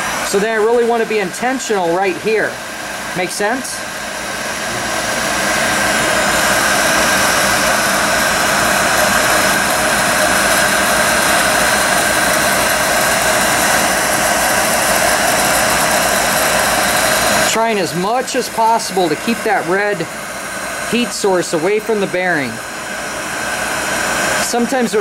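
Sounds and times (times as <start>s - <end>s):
heat gun blowing: 0.0s - 25.0s.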